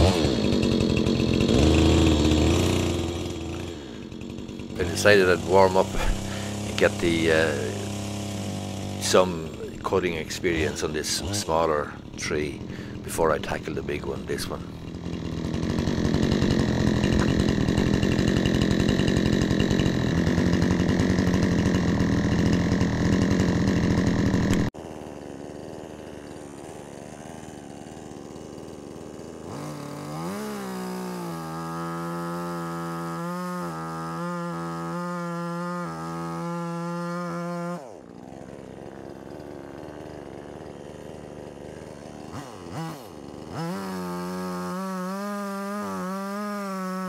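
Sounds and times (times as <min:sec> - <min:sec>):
chainsaw revving: 0:00.0 - 0:47.0.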